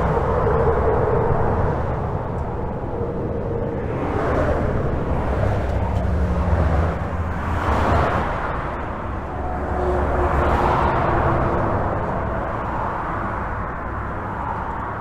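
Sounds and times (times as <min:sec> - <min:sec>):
deep engine hum: 0:00.0 - 0:14.0
highway traffic: 0:00.0 - 0:15.0
vehicles passing: 0:00.0 - 0:15.0.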